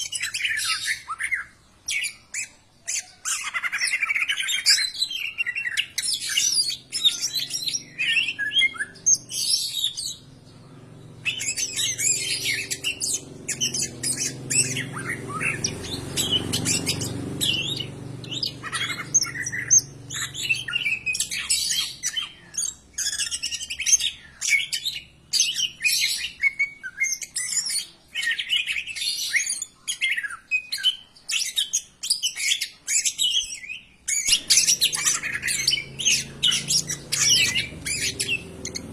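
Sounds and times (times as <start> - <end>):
bird singing chirps and squawks: 0.0 - 38.9.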